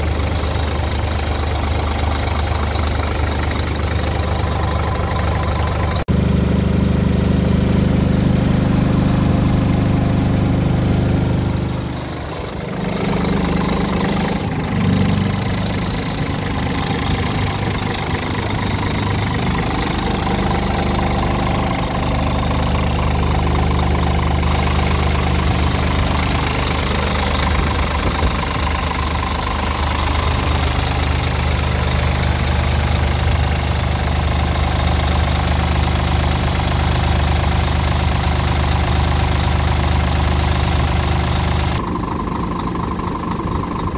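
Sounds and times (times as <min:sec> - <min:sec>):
truck diesel engine idling: 0:00.0 - 0:43.9.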